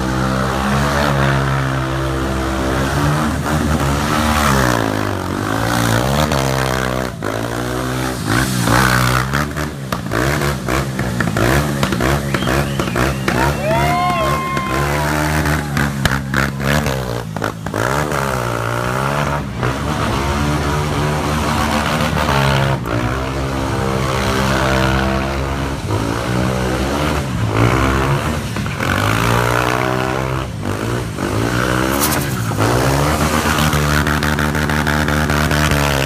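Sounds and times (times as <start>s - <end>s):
go-kart engine revving: 0.0s - 36.0s.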